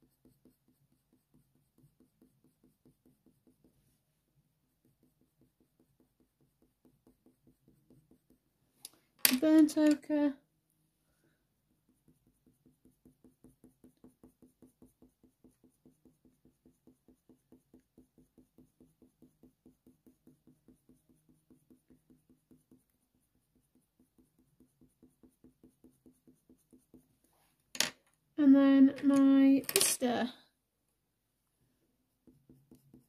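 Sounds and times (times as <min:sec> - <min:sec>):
pencil strokes on paper: 0:00.0 - 0:08.8, 0:11.0 - 0:27.7, 0:31.7 - 0:33.0.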